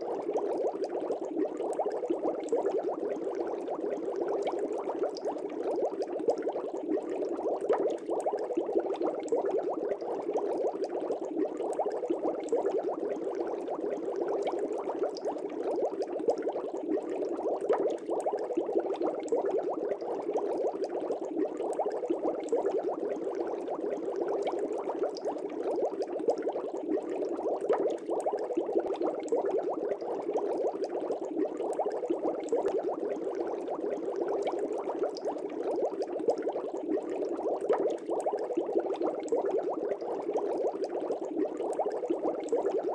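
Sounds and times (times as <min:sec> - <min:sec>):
fish tank bubbling: 0:00.0 - 0:42.9.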